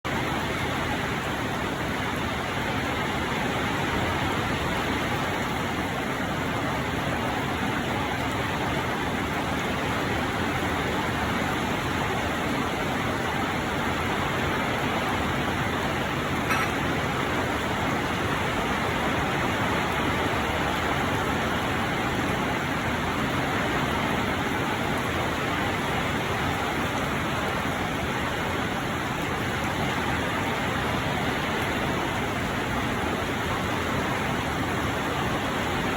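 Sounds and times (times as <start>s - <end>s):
rain falling: 0.1s - 35.9s.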